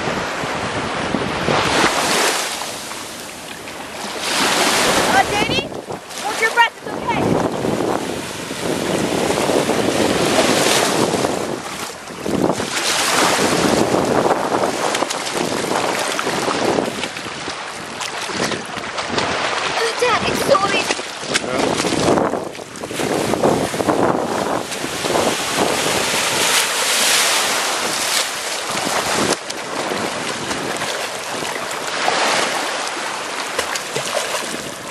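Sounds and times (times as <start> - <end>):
wind buffeting microphone: 0.0 - 32.8, 33.9 - 34.9
water splashes: 0.0 - 34.9
waves washing on sandy shore: 0.0 - 34.9.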